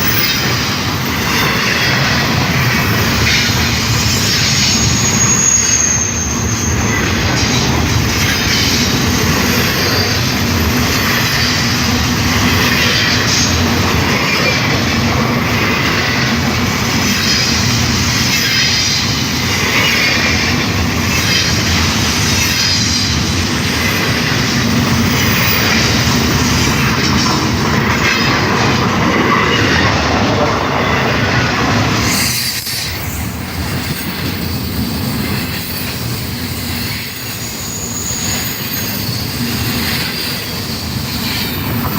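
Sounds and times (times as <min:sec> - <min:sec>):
freight train rumbling: 0:00.0 - 0:41.9
train wheels squealing on rails: 0:00.0 - 0:41.9.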